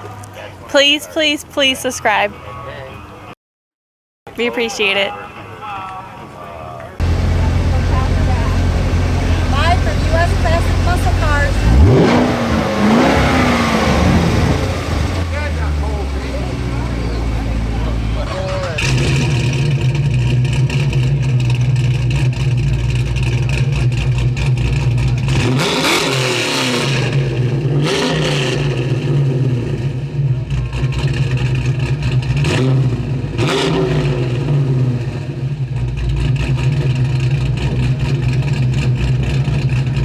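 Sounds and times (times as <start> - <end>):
car engine idling and revving: 0.0 - 3.3, 5.1 - 40.0.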